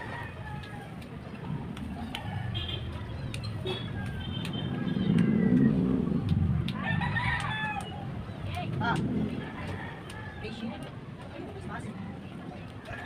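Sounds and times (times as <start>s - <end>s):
vehicle engine rumble passing: 0.0s - 13.0s.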